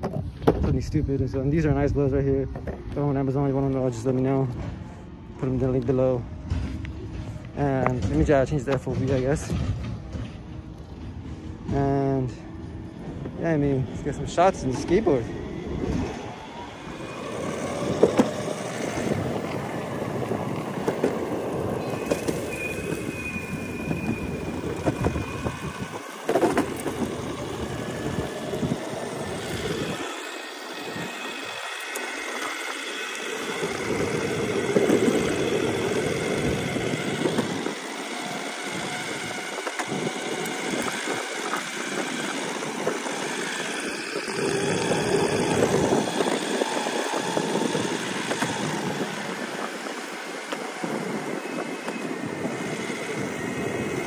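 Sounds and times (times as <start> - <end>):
skateboard wheels rumbling on concrete: 0.0 - 54.0
wind on microphone: 0.0 - 54.0
faint high whine: 0.7 - 54.0.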